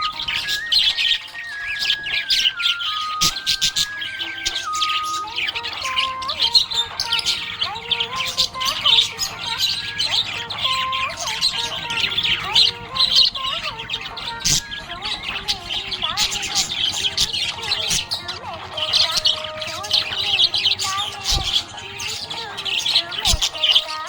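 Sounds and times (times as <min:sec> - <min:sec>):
budgerigars chirping and warbling: 0:00.0 - 0:24.0.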